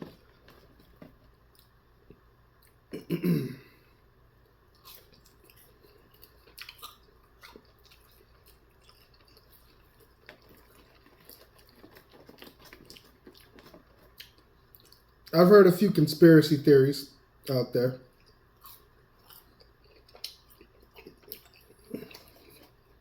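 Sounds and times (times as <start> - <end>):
man chewing food: 0.0 - 15.4, 17.4 - 23.0.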